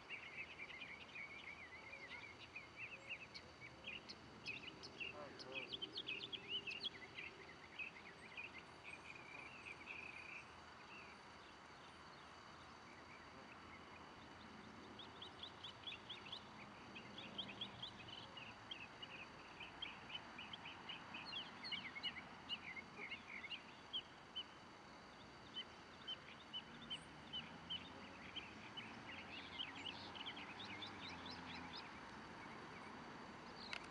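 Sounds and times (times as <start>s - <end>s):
outdoor background: 0.0s - 33.9s
small birds chirping: 0.0s - 33.9s.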